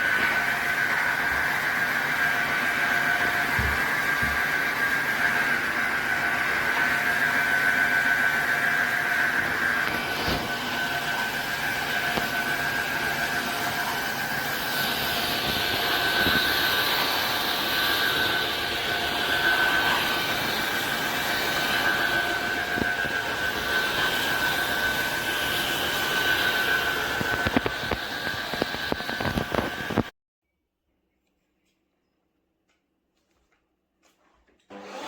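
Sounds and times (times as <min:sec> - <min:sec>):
floor cleaner motor whine: 0:00.0 - 0:30.1, 0:34.7 - 0:35.0.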